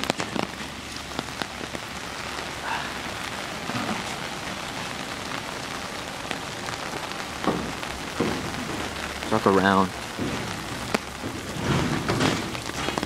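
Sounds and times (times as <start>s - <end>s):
raindrop taps: 0.0s - 13.0s
steady rain falling: 0.0s - 13.0s.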